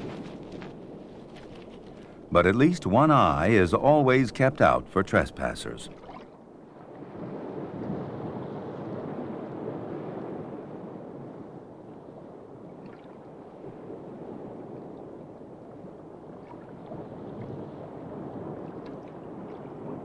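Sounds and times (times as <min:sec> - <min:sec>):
underwater moving water: 0:00.0 - 0:20.0.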